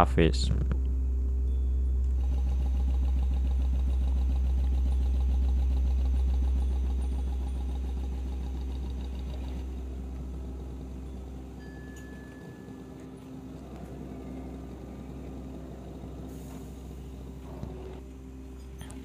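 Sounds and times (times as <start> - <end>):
machinery humming and rattling: 0.0 - 19.0.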